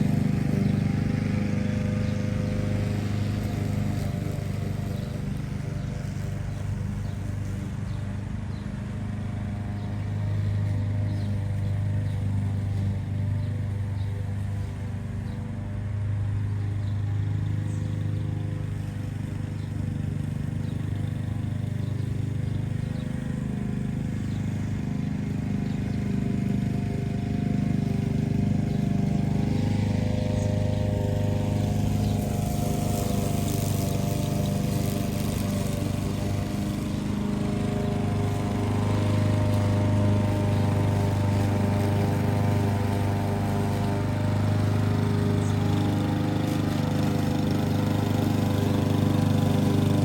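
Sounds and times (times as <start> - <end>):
lawn mower engine running: 0.0 - 50.0.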